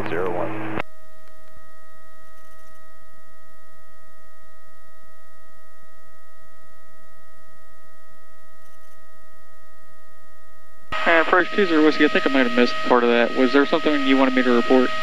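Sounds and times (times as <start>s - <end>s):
steady electronic tone: 0.0s - 15.0s.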